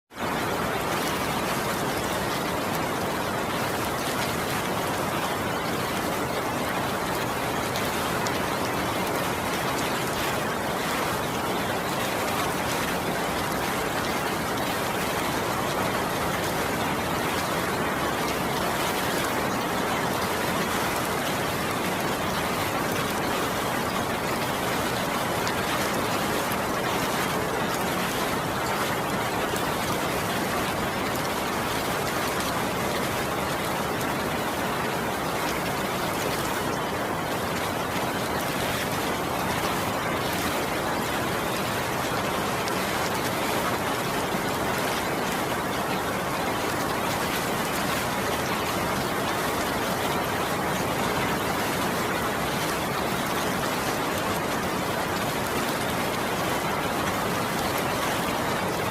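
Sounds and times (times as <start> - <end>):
steady rain falling: 0.1 - 58.9.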